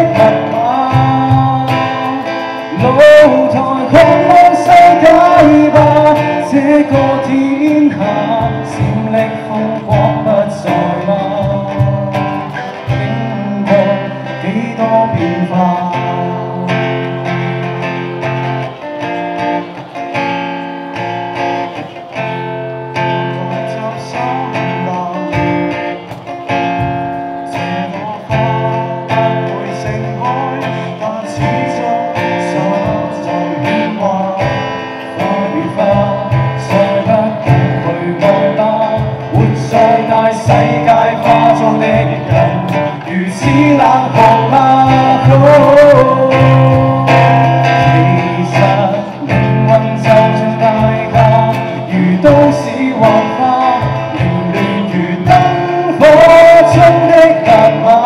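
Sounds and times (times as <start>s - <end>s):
men singing: 0.0s - 17.2s, 23.3s - 26.0s, 27.5s - 58.0s
cajon beat: 0.0s - 58.0s
strummed acoustic guitar: 0.0s - 58.0s.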